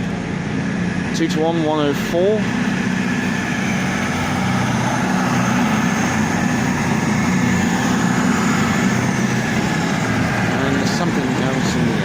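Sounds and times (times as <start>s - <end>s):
diesel engines low drone: 0.0s - 12.0s.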